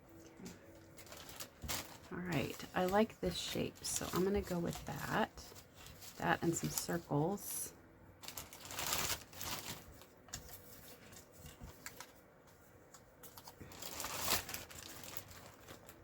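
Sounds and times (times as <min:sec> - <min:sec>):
paper rustling: 0:00.2 - 0:07.1, 0:08.2 - 0:16.0.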